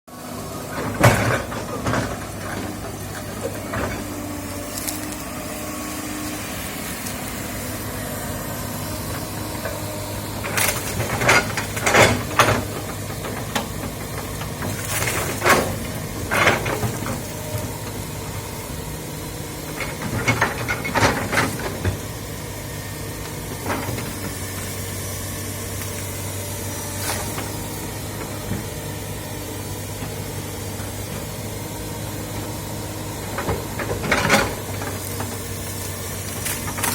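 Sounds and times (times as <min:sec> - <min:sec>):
excavator diesel engine running: 0:00.1 - 0:36.9.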